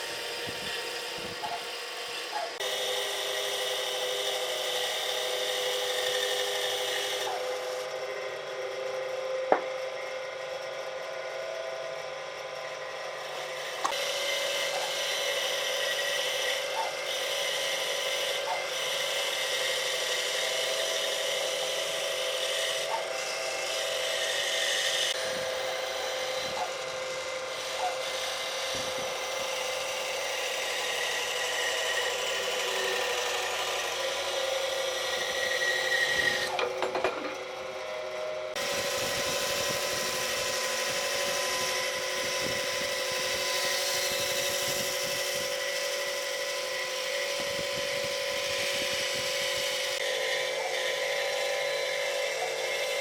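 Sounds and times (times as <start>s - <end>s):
power tool cutting wood: 0.0s - 53.0s.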